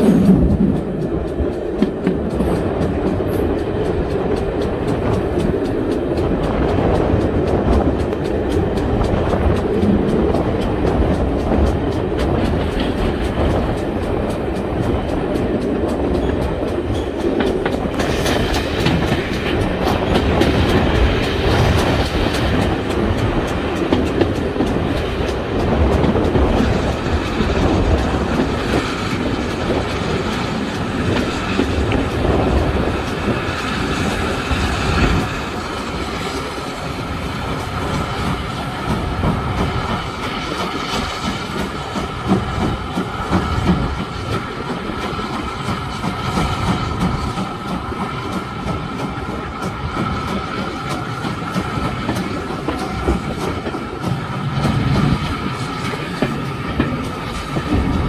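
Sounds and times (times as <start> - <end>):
steam train rumbling: 0.0 - 58.0
wheels clicking over rail joints: 0.0 - 58.0.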